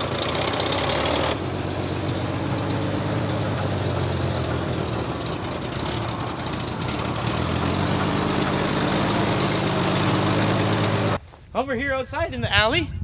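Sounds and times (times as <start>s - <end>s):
car engine running: 0.0s - 11.2s.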